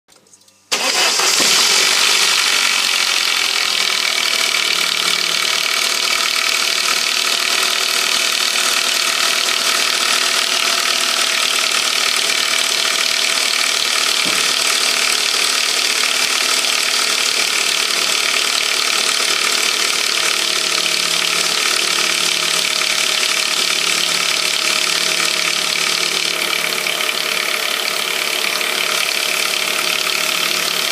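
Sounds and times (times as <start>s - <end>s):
car engine idling: 0.7s - 30.9s
strange mechanical engine noise: 0.7s - 30.9s.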